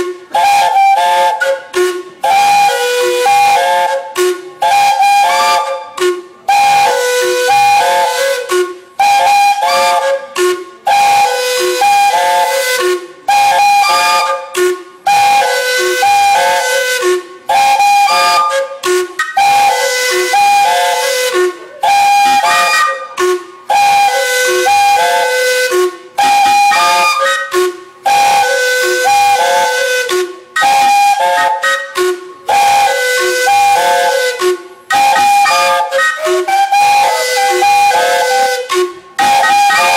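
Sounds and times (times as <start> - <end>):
hissing steam: 0.0 - 39.9
steam whistles playing music: 0.0 - 39.9.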